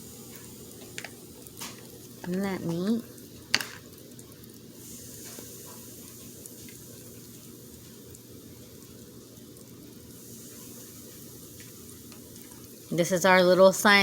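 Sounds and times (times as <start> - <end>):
faint fizzing: 0.0 - 14.0.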